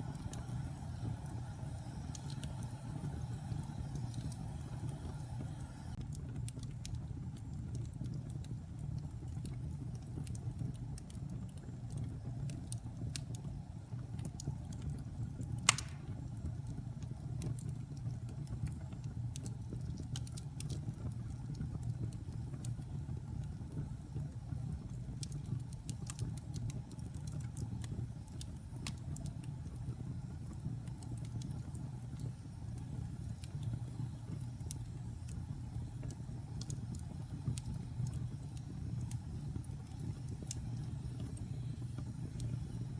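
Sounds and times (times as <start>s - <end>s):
low rumble of fire: 0.0s - 42.9s
wood fire crackling: 0.0s - 42.9s.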